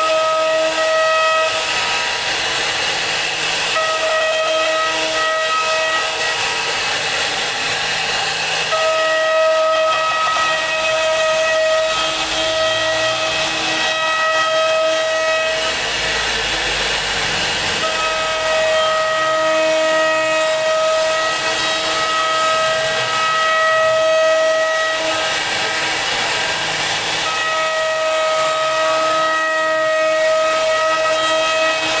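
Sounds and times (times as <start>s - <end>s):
router spindle high whine: 0.0s - 32.0s.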